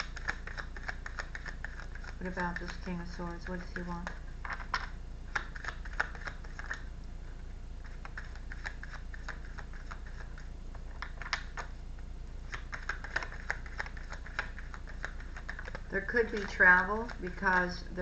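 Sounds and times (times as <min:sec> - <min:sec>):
cards clicking and tapping: 0:00.0 - 0:06.8, 0:08.0 - 0:11.7, 0:12.5 - 0:17.6
low hum: 0:00.0 - 0:18.0.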